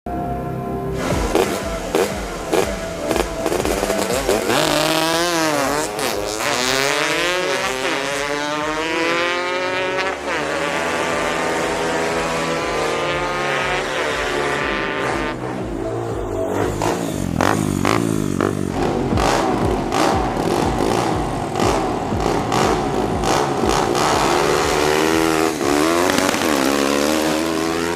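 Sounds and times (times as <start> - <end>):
vocal imitation of motorcycle engine: 1.0 - 27.9.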